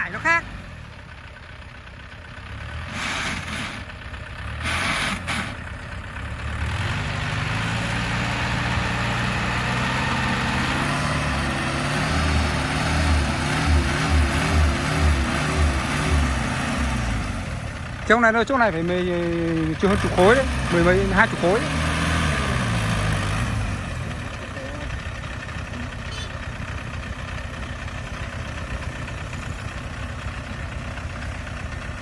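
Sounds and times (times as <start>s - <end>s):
heavy diesel engine revving: 0.0s - 1.5s, 2.1s - 32.0s.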